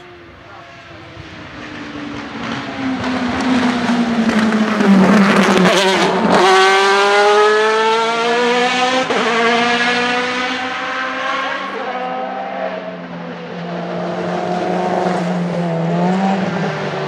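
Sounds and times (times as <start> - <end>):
race car engine passing by: 0.2 - 17.0.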